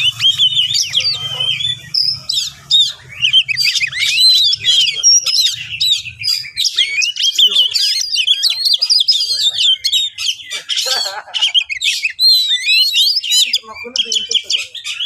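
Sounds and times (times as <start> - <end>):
bird singing high whistles: 0.0 - 10.4, 11.6 - 14.2.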